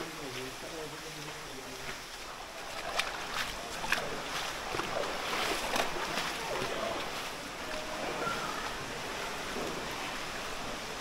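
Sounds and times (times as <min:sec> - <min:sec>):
rushing stream and waterfall: 0:00.0 - 0:11.0.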